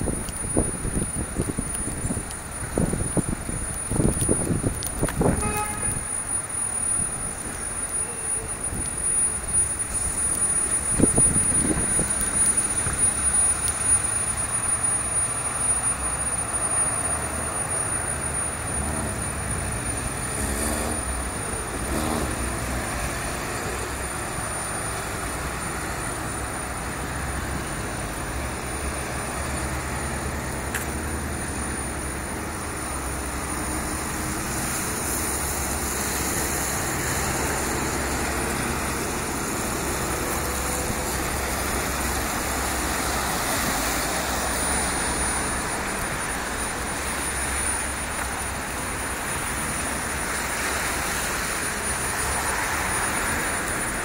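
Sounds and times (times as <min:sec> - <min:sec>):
tyres hissing on wet road: 0:00.0 - 0:54.0
vehicle engines rumbling: 0:00.0 - 0:54.0.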